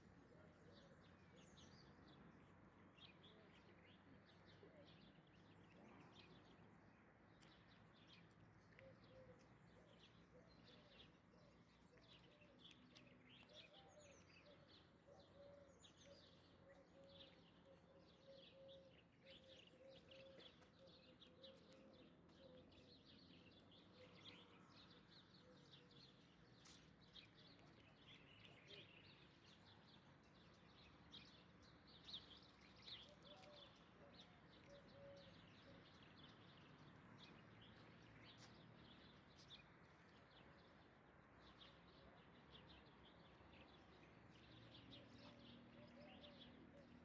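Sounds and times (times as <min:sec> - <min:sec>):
small birds chirping: 0:07.3 - 0:47.0.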